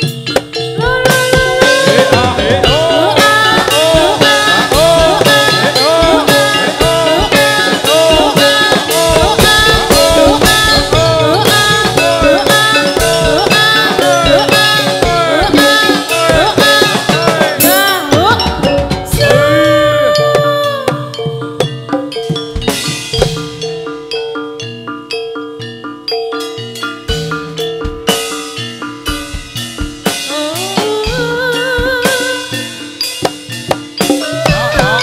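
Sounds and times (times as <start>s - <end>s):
fast steady drumbeat: 0.0s - 35.0s
sliding melodic line: 0.0s - 35.0s.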